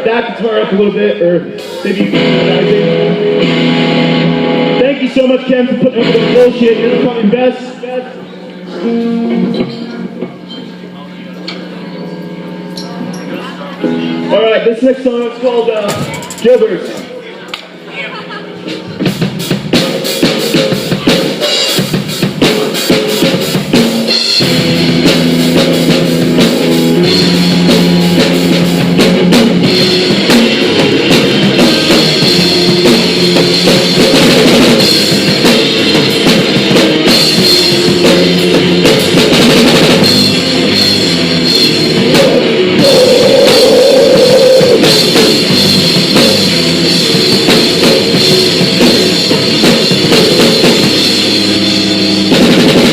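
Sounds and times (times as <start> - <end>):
live rock band playing: 0.0 - 10.9, 11.8 - 17.1, 17.8 - 52.9.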